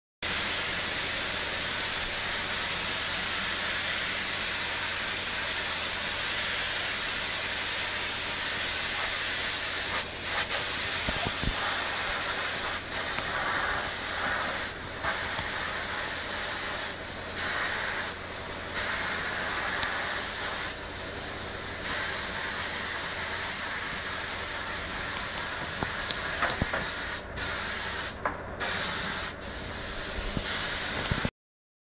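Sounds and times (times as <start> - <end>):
spray gun hissing: 0.2 - 31.3.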